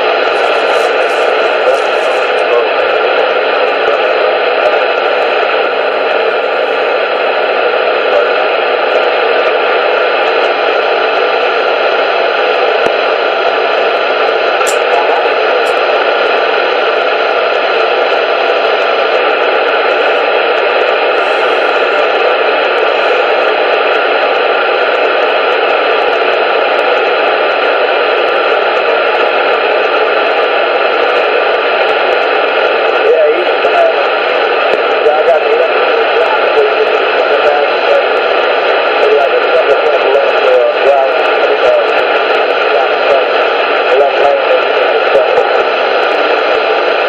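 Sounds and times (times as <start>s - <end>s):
radio static hiss: 0.0s - 47.0s.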